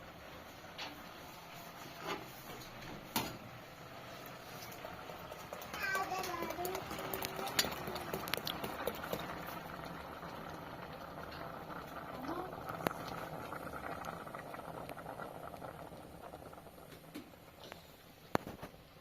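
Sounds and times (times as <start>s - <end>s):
steady watery hiss: 0.0s - 19.0s.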